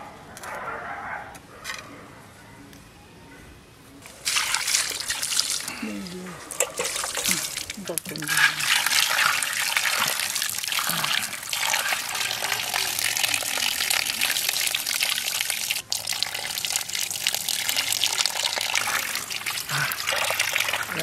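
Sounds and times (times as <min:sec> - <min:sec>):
water pouring and splashing: 0:04.1 - 0:21.0.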